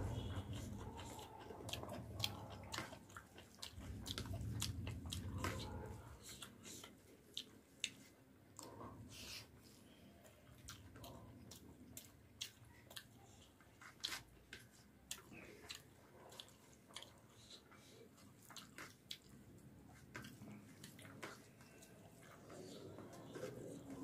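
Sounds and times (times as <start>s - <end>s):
faint wet chewing: 0.0s - 24.0s.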